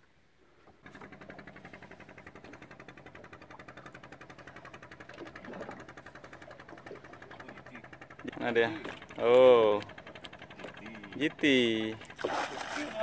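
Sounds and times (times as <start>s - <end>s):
boat engine idling: 0.4s - 13.0s.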